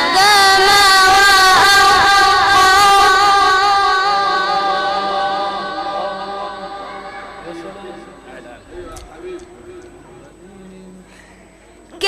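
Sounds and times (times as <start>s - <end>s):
boy reciting melodically: 0.0s - 11.0s.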